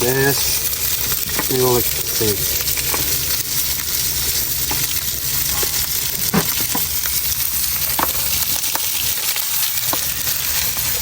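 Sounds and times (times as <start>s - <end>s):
fish sizzling as it fries: 0.0s - 11.0s.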